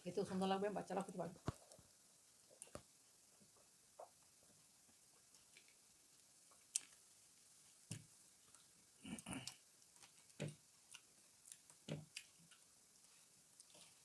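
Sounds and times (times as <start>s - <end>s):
soft chewing and mouth noises: 1.0s - 14.0s.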